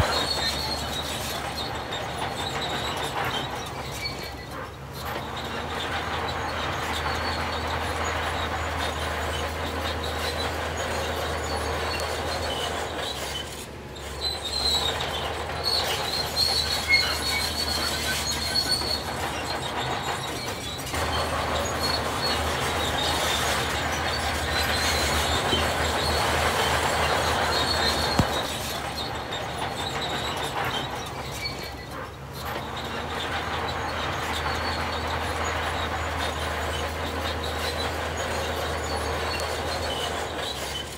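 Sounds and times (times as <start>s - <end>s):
diesel machinery engine drone: 0.0s - 40.9s
metallic squeal and grinding: 0.0s - 40.9s.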